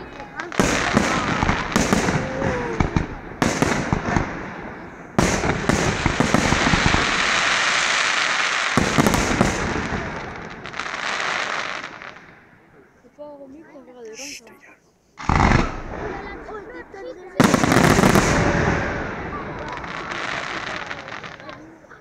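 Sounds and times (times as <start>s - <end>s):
firework crackle: 0.0s - 12.5s, 15.2s - 22.0s
firework bangs: 0.0s - 12.6s, 15.2s - 21.7s.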